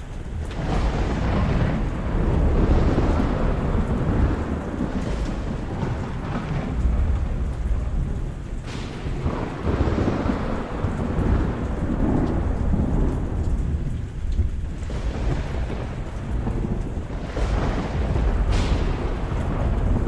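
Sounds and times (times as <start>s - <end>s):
rolling thunder: 0.0s - 20.0s
steady rain: 0.0s - 20.0s.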